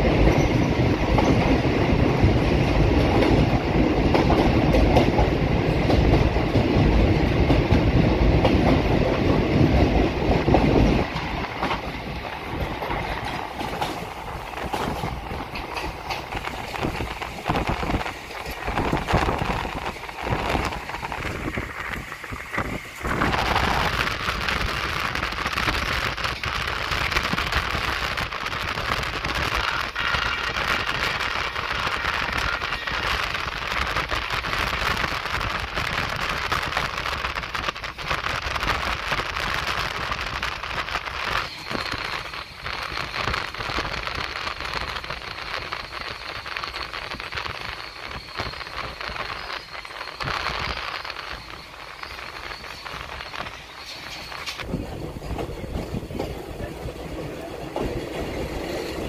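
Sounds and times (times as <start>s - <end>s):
crackling rush of train noise: 0.0s - 59.0s
train wheels clattering: 0.0s - 59.0s.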